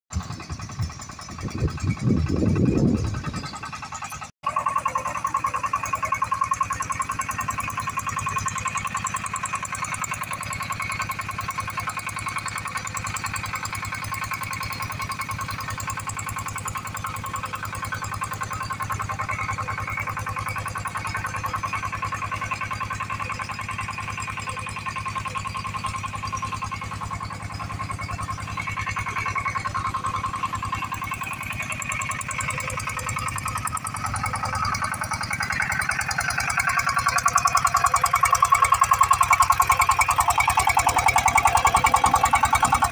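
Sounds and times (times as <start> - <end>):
constant whine: 0.1 - 42.9
water pump engine running: 0.1 - 42.9.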